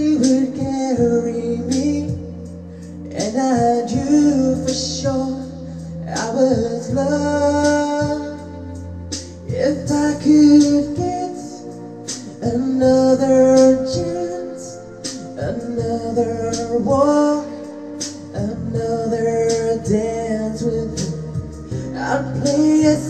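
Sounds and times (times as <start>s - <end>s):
solo voice singing: 0.0s - 8.8s, 9.4s - 23.0s.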